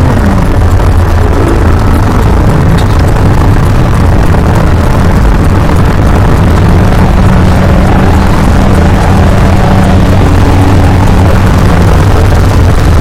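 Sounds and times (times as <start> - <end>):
held low hums: 0.0 - 13.0
low rumbling drone: 0.0 - 13.0.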